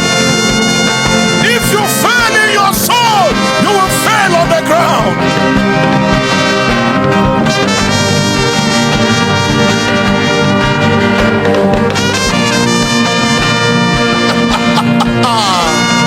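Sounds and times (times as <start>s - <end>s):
brass music with steady beat: 0.0s - 16.0s.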